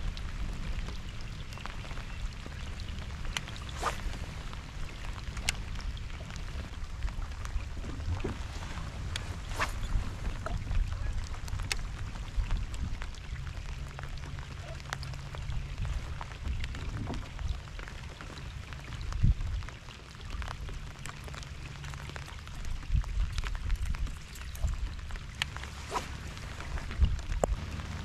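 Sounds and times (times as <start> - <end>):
low rain rumble: 0.0 - 28.0
rain drops ticking: 0.0 - 28.0.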